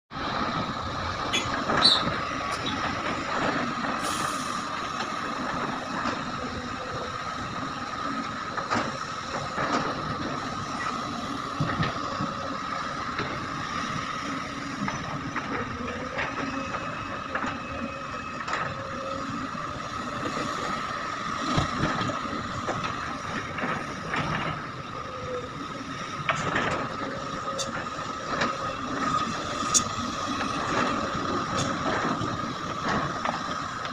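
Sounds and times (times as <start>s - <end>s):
excavator engine and hydraulics: 0.1s - 33.9s.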